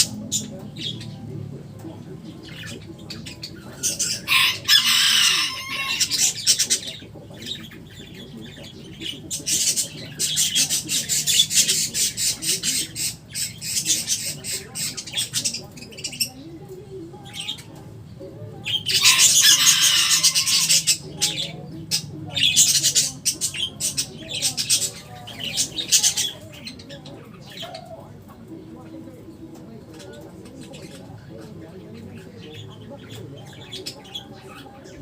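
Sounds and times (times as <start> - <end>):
parrots squawking: 0.0 - 16.4, 18.6 - 28.3, 29.9 - 35.0.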